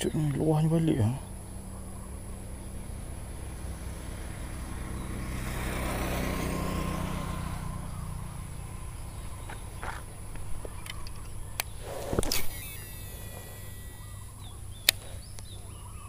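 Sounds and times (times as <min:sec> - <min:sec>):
motor vehicle passing: 0:00.0 - 0:15.8.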